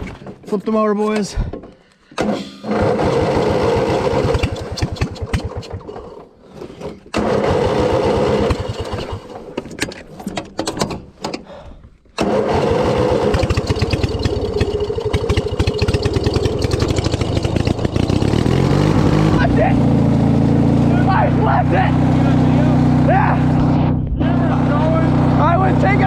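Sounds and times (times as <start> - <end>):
lawn mower engine puttering: 0.0 - 11.5, 12.1 - 26.0.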